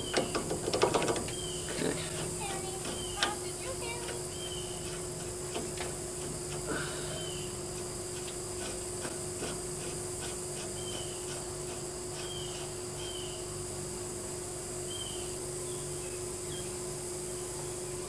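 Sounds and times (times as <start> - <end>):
constant hum: 0.0 - 18.0
insect-like buzz: 0.0 - 18.0.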